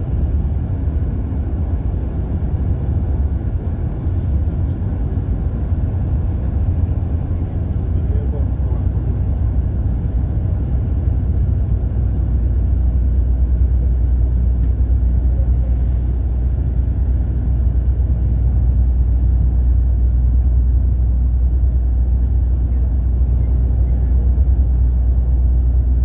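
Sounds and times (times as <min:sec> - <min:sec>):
engine and road noise in cabin: 0:00.0 - 0:26.0.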